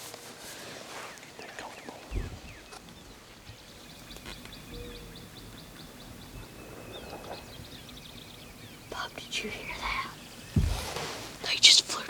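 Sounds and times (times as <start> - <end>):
faint steady background noise: 0.0 - 12.0
small birds chirping: 0.5 - 12.0.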